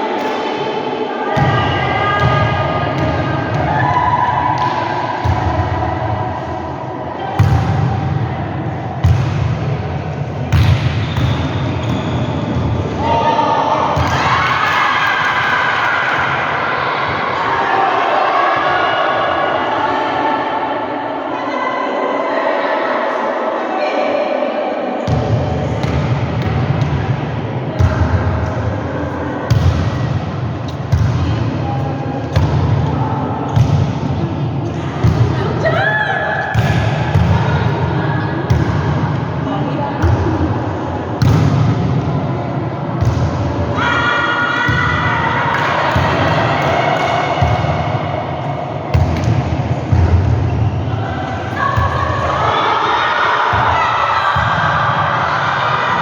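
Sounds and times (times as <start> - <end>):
gym hall noise: 0.0 - 56.0.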